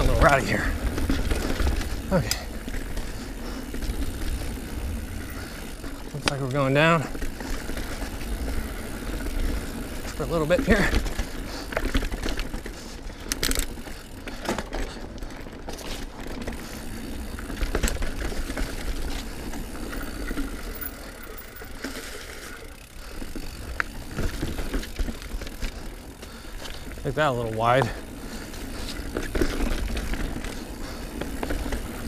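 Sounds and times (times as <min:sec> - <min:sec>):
bike tyres rolling on dirt: 0:00.0 - 0:32.0.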